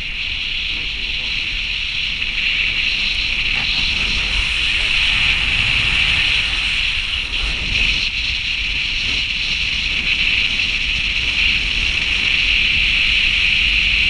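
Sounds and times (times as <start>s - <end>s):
low rumble: 0.0s - 11.4s
tyre and wind hiss: 0.0s - 14.0s.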